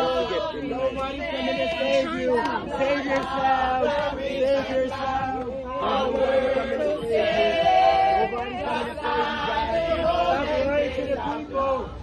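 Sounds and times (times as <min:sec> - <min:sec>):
group singing a worship chorus: 0:00.0 - 0:12.0.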